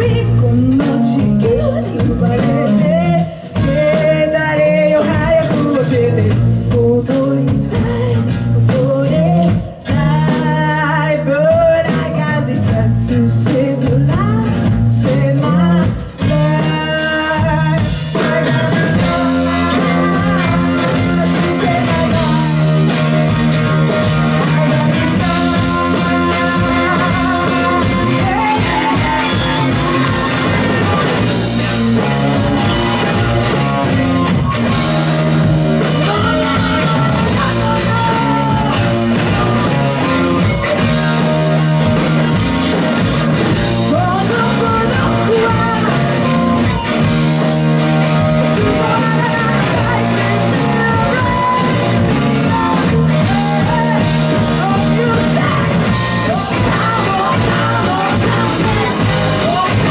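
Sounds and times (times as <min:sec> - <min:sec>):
live blues-rock band: 0:00.0 - 0:59.9
woman singing lead: 0:00.0 - 0:59.9.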